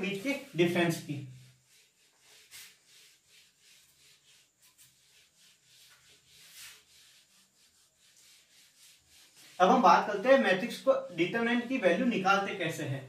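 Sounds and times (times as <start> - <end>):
whiteboard eraser swishing: 0.0 - 12.2.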